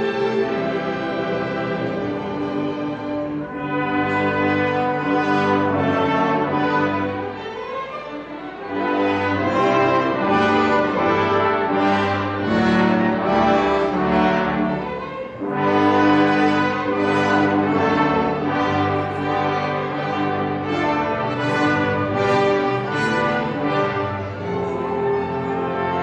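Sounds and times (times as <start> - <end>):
brass section playing chords: 3.1 - 7.4, 8.6 - 26.0.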